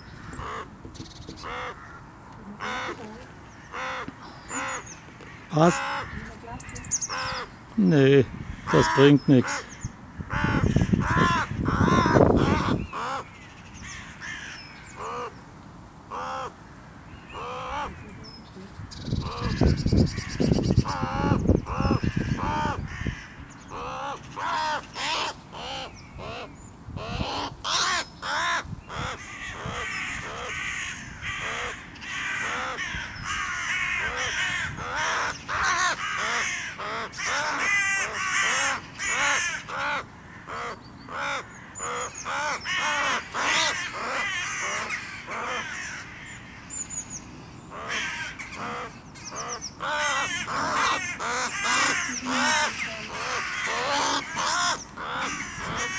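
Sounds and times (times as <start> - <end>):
crow cawing: 0.0 - 0.7, 1.4 - 6.4, 7.1 - 7.5, 8.4 - 15.4, 16.1 - 16.6, 17.3 - 17.9, 19.2 - 46.7, 47.7 - 55.9.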